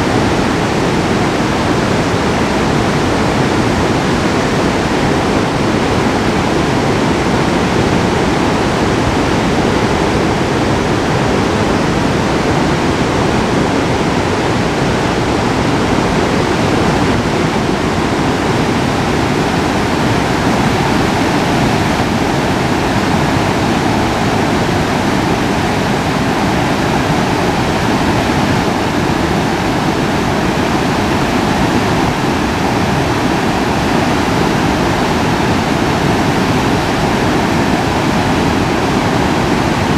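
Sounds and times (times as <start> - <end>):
flooded river roaring: 0.0 - 39.9.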